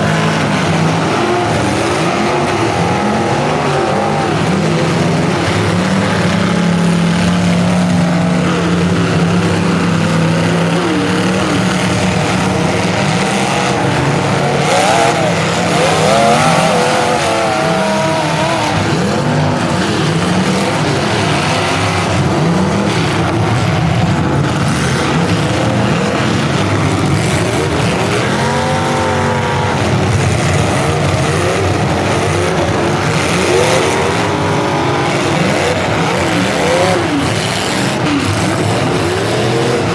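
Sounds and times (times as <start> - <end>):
car engines revving: 0.0 - 39.9
cars knocking: 0.0 - 39.9.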